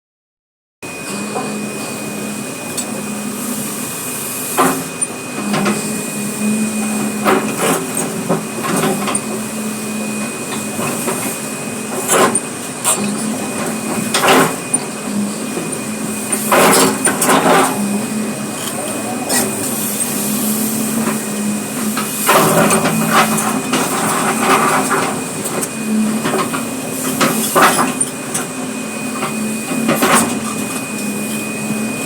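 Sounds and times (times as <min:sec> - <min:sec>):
excavator engine drone: 0:00.8 - 0:32.0.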